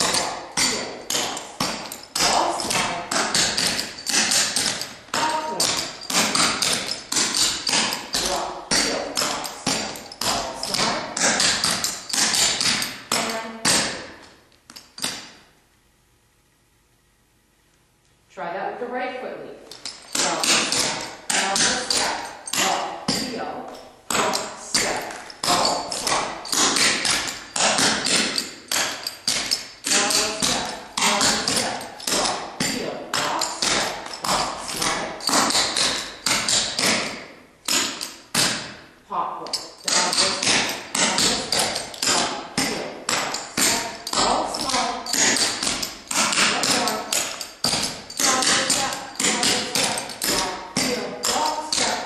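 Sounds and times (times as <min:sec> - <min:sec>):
tap shoes on wooden floor: 0:00.0 - 0:15.2, 0:19.9 - 0:38.8, 0:39.4 - 0:52.0.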